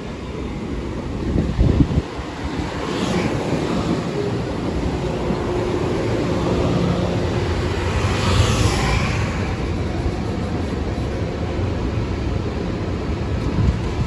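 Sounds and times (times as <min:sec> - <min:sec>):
train passing rumble: 0:00.0 - 0:14.0.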